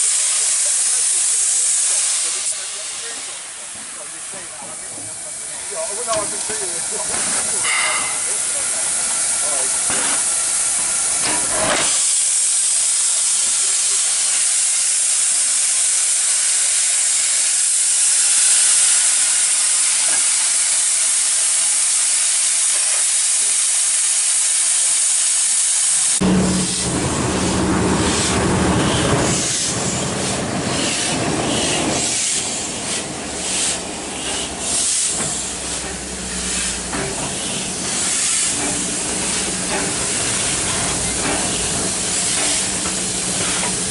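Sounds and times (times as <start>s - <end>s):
steam locomotive venting steam: 0.0s - 43.9s.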